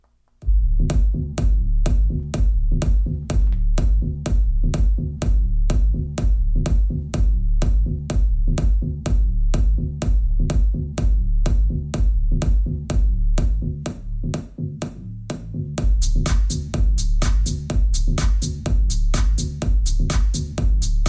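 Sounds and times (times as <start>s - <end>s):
drum-machine beat: 0.4s - 21.0s
heavy bass: 0.4s - 21.0s
electronic dance music over loudspeakers: 0.9s - 14.6s, 15.8s - 21.0s.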